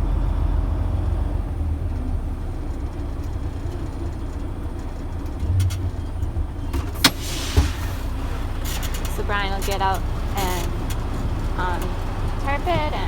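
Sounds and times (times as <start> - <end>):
truck engine rumbling at low revs: 0.0 - 13.0.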